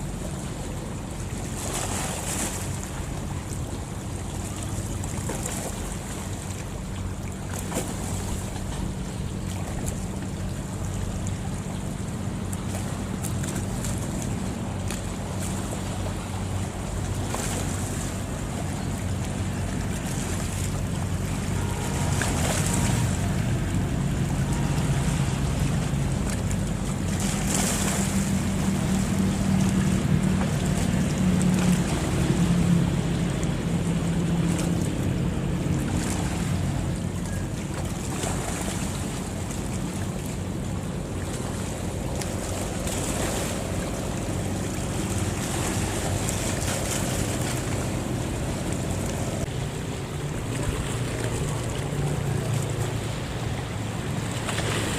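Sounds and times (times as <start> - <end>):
boat engine humming: 0.0 - 54.9
sea water washing: 0.0 - 54.9.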